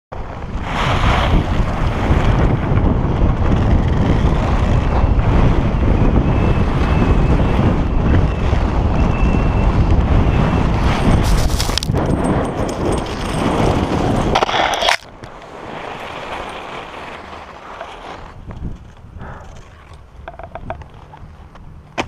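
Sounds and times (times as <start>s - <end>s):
wind buffeting microphone: 0.1s - 22.0s
skis running over hard snow: 0.2s - 20.2s.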